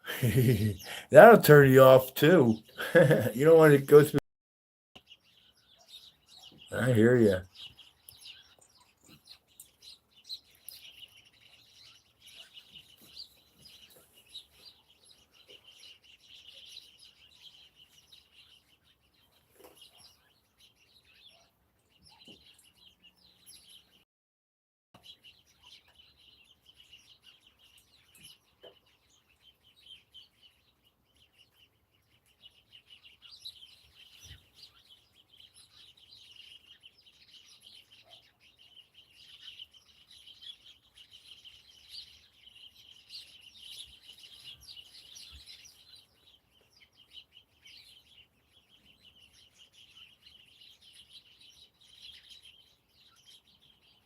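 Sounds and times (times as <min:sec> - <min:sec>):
small birds chirping: 0:00.0 - 0:04.2, 0:05.0 - 0:24.0, 0:25.0 - 0:54.0.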